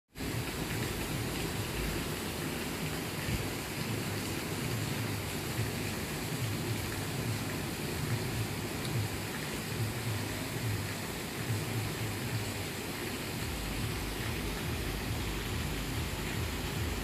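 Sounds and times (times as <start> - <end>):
steady hissing noise: 0.2 - 17.0.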